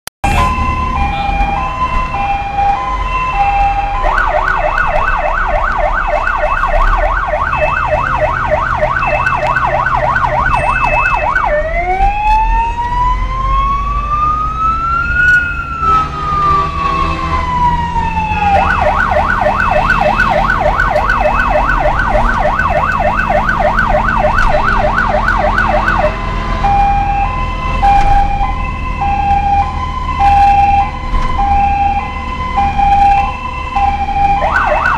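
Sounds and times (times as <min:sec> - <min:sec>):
emergency vehicle siren: 0:00.2 - 0:34.9.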